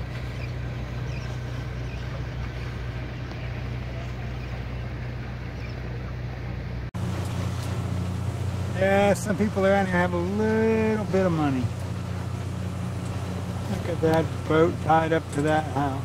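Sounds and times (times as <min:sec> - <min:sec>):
boat motor droning: 0:00.0 - 0:16.0.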